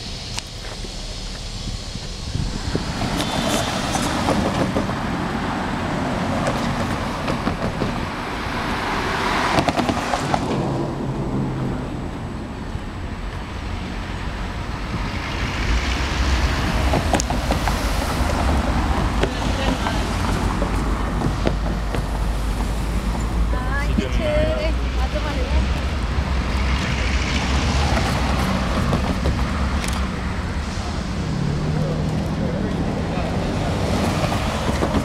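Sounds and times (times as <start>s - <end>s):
cars passing: 0.0s - 35.0s
low rumble: 0.0s - 35.0s.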